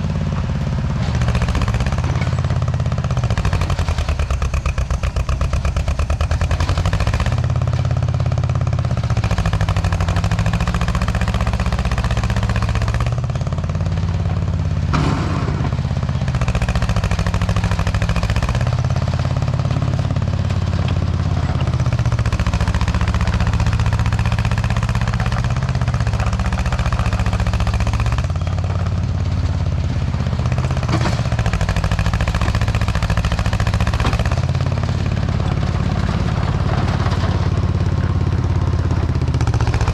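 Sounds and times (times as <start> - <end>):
heavy equipment engine under load: 0.0 - 39.9.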